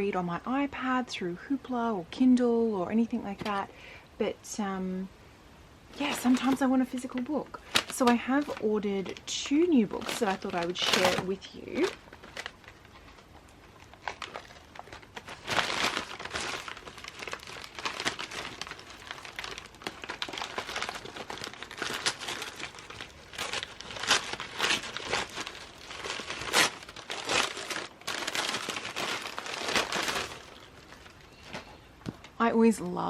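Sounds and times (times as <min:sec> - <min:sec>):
packaging crinkling and rustling: 0:03.2 - 0:03.7, 0:05.9 - 0:32.3.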